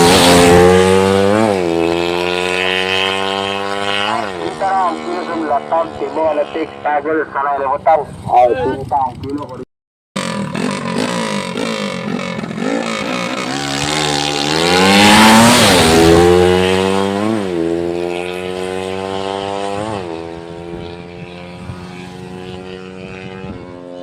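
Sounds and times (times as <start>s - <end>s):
motorcycle engine accelerating: 0.0s - 9.6s, 10.2s - 24.0s.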